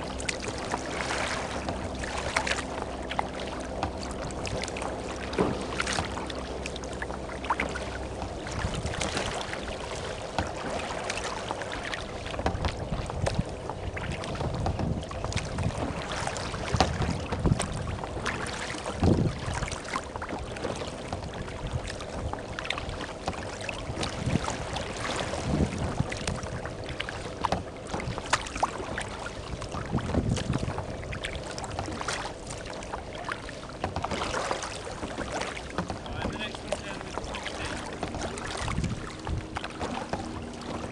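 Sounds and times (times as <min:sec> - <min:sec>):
wind buffeting microphone: 0:00.0 - 0:11.2, 0:12.0 - 0:32.0, 0:33.0 - 0:40.9
water slapping against kayak hull: 0:00.0 - 0:40.9.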